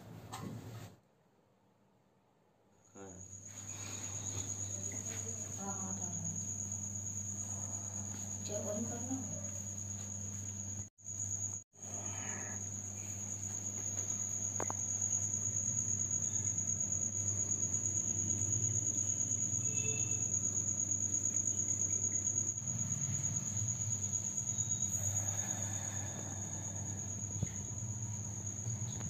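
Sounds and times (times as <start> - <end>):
cricket trilling: 2.9 - 29.0.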